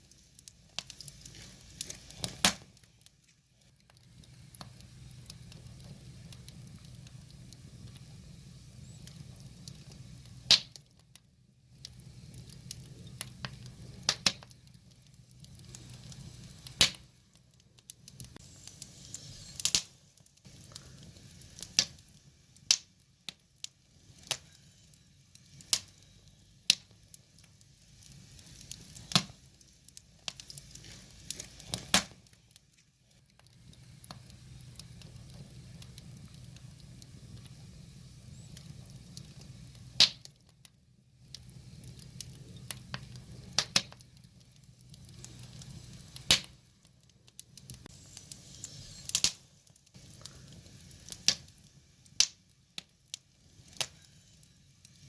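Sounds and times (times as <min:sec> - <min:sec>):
firewood crackling and popping: 0:00.0 - 0:55.0
low rustle of flame: 0:00.0 - 0:55.0.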